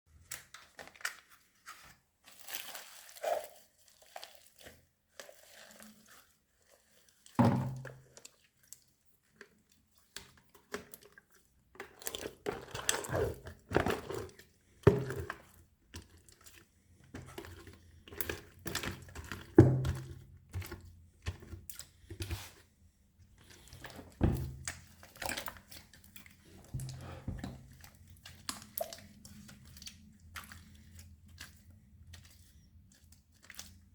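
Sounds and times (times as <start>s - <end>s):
slime squelching and crackling: 0.2s - 33.9s.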